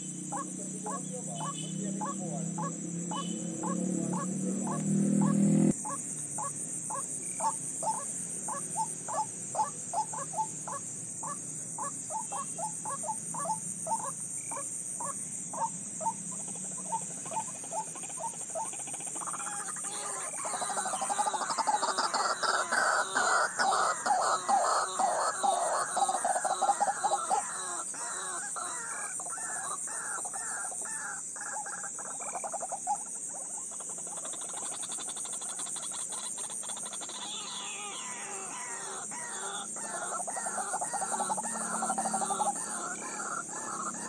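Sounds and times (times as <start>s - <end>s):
bird calls: 0.0s - 44.0s
chorus of bird calls: 0.0s - 44.0s.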